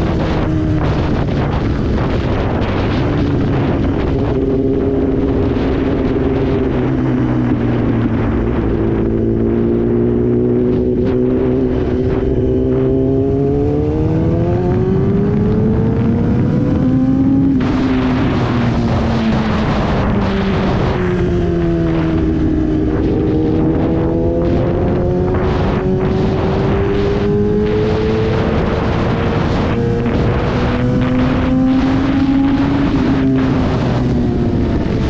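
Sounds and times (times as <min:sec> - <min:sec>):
motorcycle engine running: 0:00.0 - 0:35.0
wind noise: 0:00.0 - 0:35.0.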